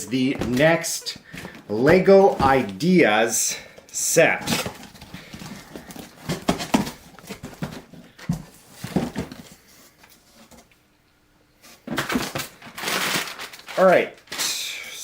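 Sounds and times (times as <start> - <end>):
cardboard and packing rustling: 0.3 - 10.8, 11.6 - 14.4.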